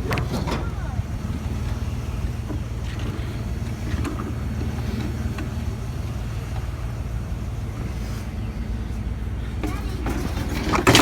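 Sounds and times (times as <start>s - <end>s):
motor vehicle engine rumbling: 0.0s - 11.0s.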